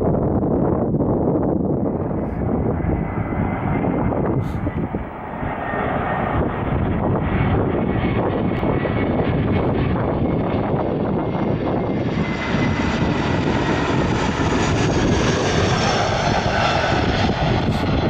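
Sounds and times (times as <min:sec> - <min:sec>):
airliner engines rumbling: 0:00.0 - 0:18.0.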